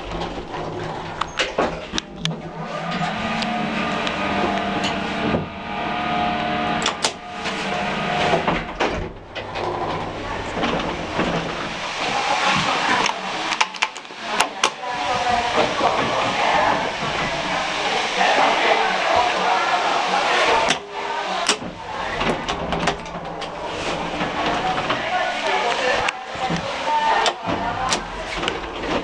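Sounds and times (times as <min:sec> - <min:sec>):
lift machinery humming: 0:00.0 - 0:29.0.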